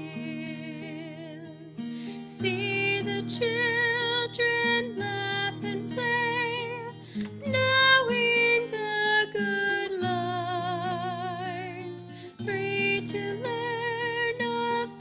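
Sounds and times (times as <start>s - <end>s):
woman singing a hymn: 0.0s - 1.6s, 2.3s - 15.0s
strummed acoustic guitar: 0.0s - 15.0s.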